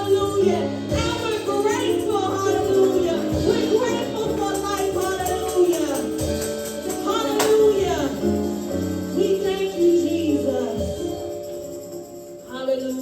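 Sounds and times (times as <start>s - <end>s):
tambourine jingling: 0.0s - 13.0s.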